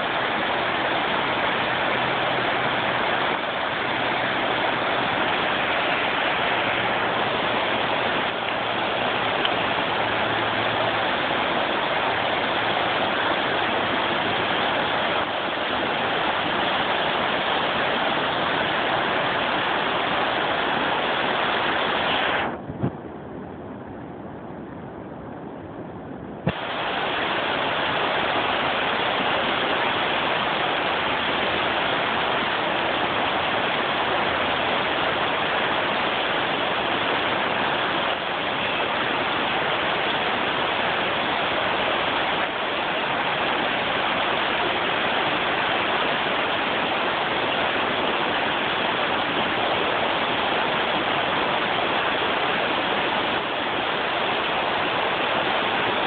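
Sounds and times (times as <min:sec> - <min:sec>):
river flowing around rocks: 0:00.0 - 0:23.9, 0:24.6 - 0:56.0.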